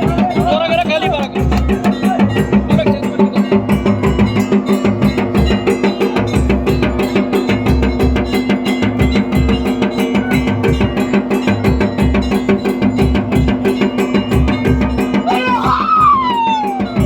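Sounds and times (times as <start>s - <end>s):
fast even drumming: 0.0s - 17.0s.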